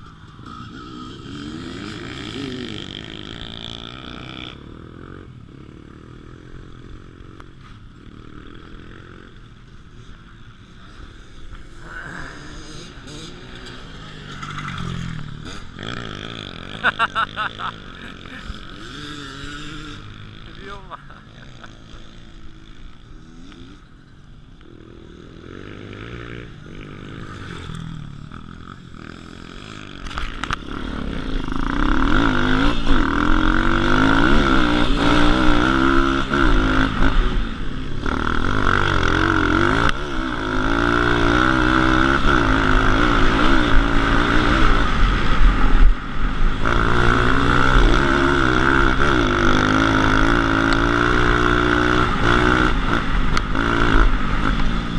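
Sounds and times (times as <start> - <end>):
motorbike engine revving: 0.0 - 54.9.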